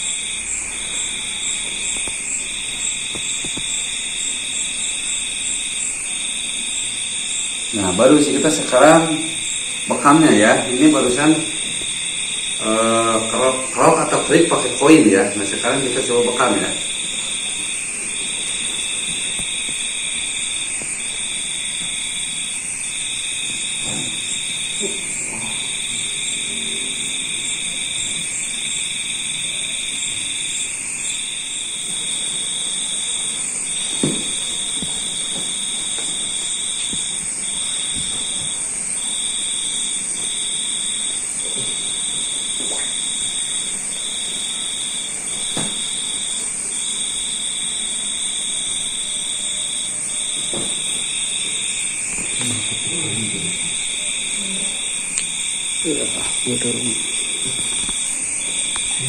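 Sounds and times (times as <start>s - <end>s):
high-pitched buzzing trill: 0.0s - 45.2s, 45.8s - 59.0s
steady hiss: 0.0s - 59.0s.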